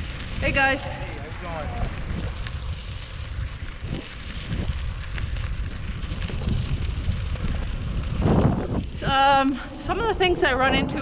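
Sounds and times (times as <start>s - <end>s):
bicycle tyres rumbling on pavement: 0.0s - 11.0s
wind buffeting microphone: 0.0s - 11.0s.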